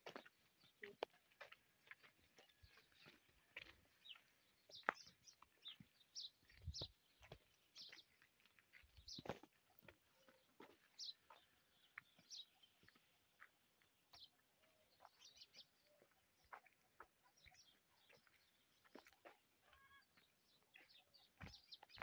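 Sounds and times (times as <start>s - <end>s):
footsteps on dirt path: 0.0s - 22.0s.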